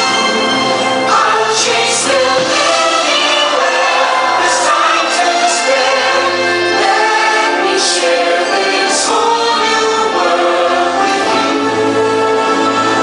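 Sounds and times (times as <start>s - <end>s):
choir singing held notes: 0.0s - 13.0s
orchestral music: 0.0s - 13.0s.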